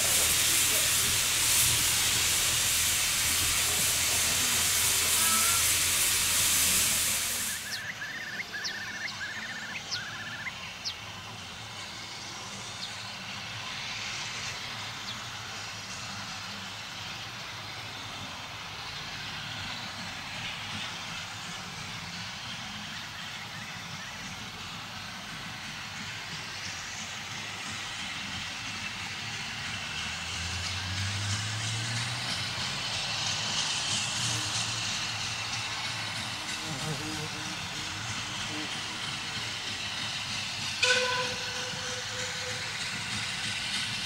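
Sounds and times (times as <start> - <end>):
distant steam train running: 0.0 - 44.0
loud steam hiss: 0.0 - 44.0.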